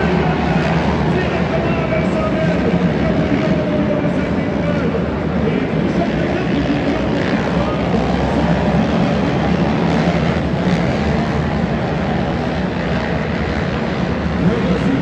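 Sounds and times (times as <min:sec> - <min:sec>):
atv engines droning: 0:00.0 - 0:15.0.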